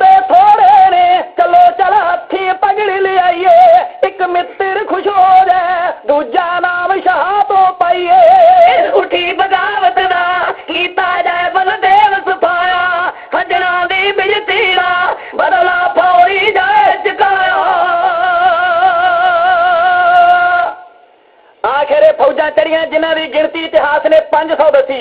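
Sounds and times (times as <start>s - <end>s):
person singing devotional song: 0.0s - 21.0s, 21.6s - 25.0s.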